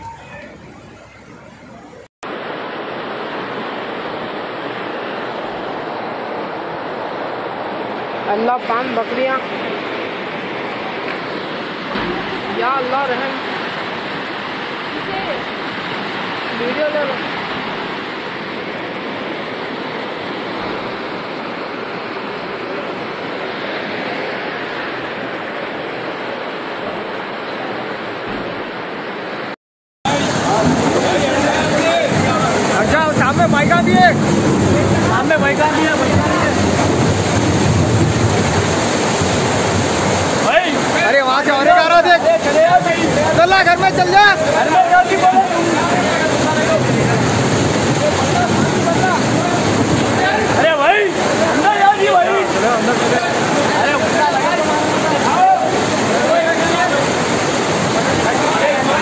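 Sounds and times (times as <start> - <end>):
floodwater rushing: 0.0 - 59.0.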